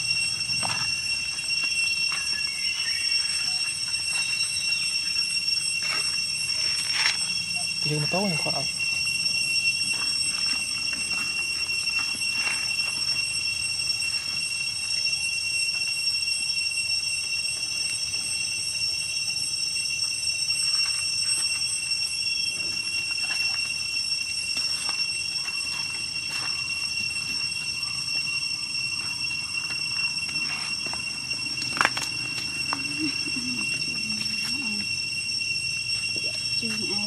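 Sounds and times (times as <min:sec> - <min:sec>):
night insects droning: 0:00.0 - 0:37.0.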